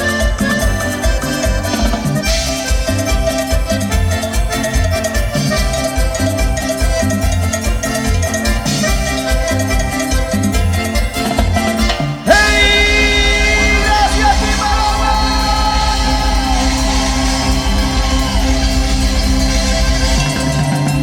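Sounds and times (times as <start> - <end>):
live band music over speakers: 0.0 - 21.0.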